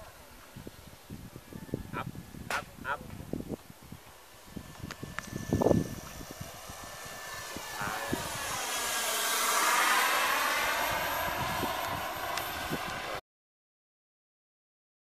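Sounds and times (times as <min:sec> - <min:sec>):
model airplane motor drone: 0:00.0 - 0:13.2.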